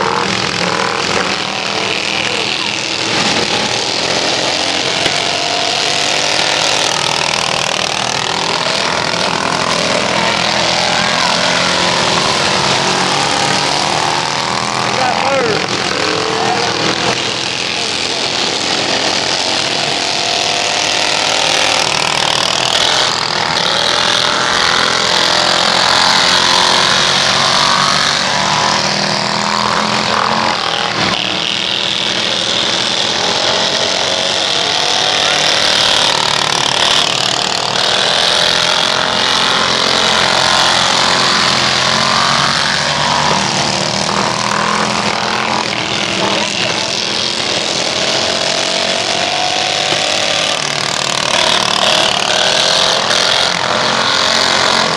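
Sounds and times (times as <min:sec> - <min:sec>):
racing lawn mower engines: 0:00.0 - 0:54.9.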